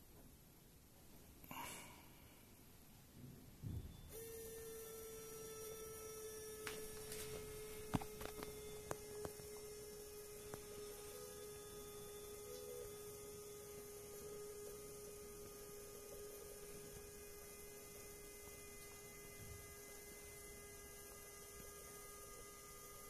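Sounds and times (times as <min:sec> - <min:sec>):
small electric motor whine: 0:03.6 - 0:23.0.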